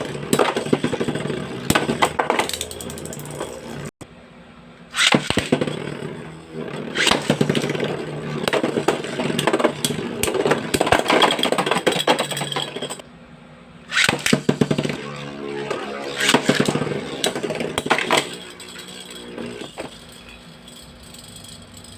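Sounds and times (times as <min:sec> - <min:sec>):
metal spinning tops clashing: 0:00.0 - 0:03.9, 0:05.0 - 0:13.0, 0:13.9 - 0:21.9.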